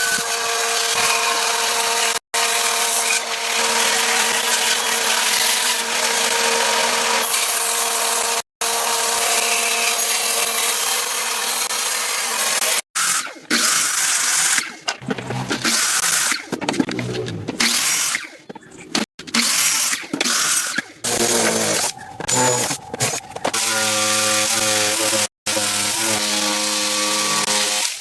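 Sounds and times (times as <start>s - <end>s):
power tools cutting wood: 0.0s - 16.4s, 19.3s - 28.0s.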